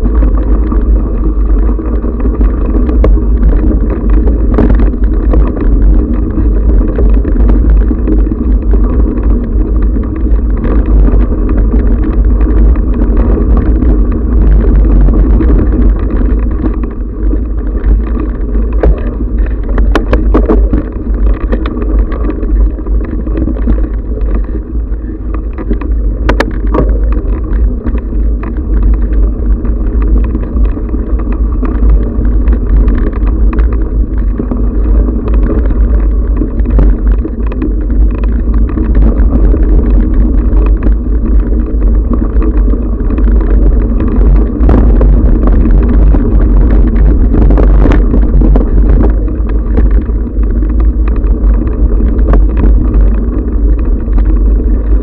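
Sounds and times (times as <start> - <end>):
bike knocks and clatters: 0.0 - 55.0
wind rumble on camera: 0.0 - 55.0.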